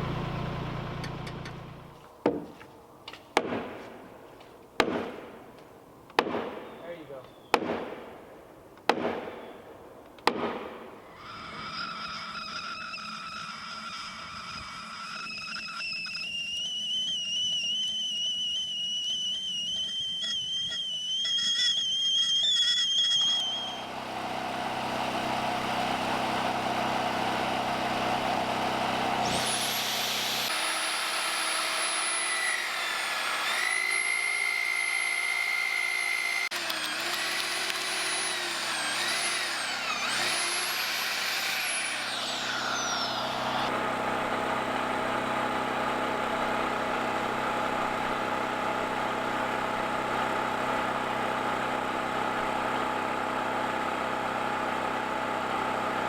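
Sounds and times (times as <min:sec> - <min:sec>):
power tool motor whining: 0:00.0 - 0:02.0, 0:11.1 - 0:56.0.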